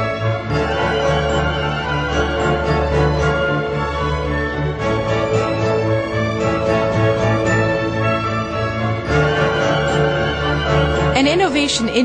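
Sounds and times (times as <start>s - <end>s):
organ-like keyboard chords: 0.0s - 12.0s.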